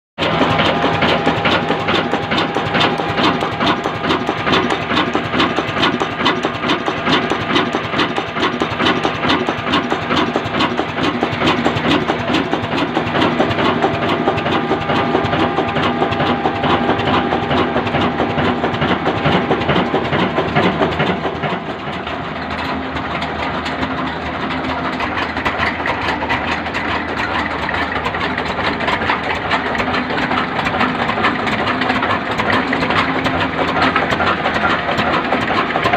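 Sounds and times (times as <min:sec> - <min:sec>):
diesel engine running: 0:00.2 - 0:35.9.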